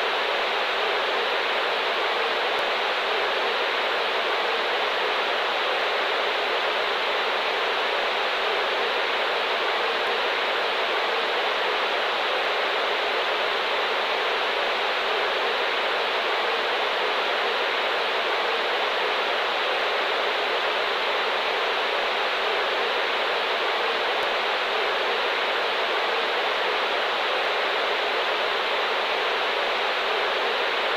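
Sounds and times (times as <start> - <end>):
radio static hiss: 0.0 - 30.9.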